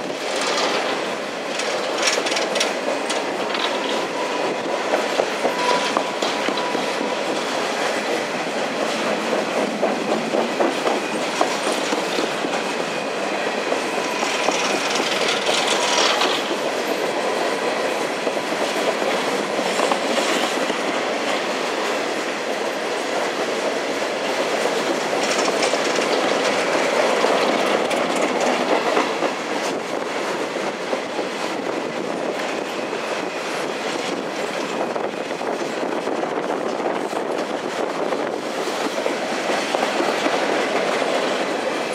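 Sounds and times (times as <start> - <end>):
rail cars rattling: 0.0 - 41.9
train wheels clicking over rail joints: 0.0 - 41.9.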